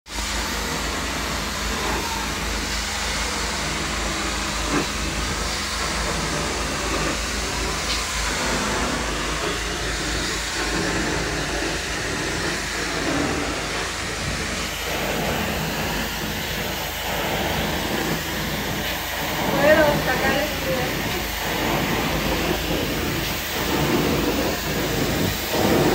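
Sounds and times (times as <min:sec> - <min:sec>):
suction hissing rush: 0:00.1 - 0:25.9.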